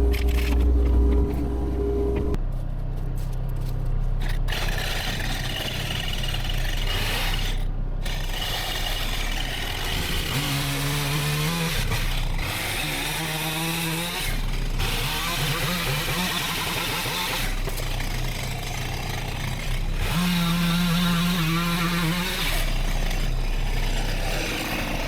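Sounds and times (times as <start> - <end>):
cutting through woody brush: 3.2 - 25.0
small petrol engine revving: 4.2 - 25.0.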